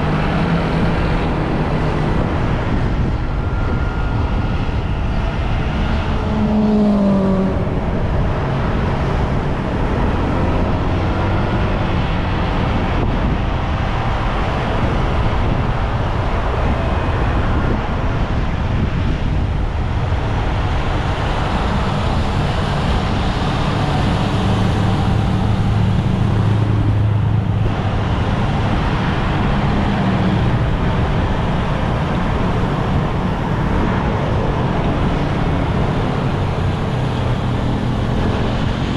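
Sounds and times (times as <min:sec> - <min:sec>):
motorbike engine hum: 0:00.0 - 0:38.9
rushing wind and road noise: 0:00.0 - 0:38.9.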